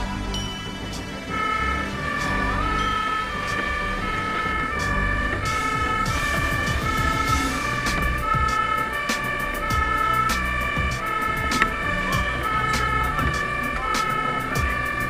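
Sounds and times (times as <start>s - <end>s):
fire engine two-tone siren: 0.0s - 15.0s
truck engine running: 0.0s - 15.0s.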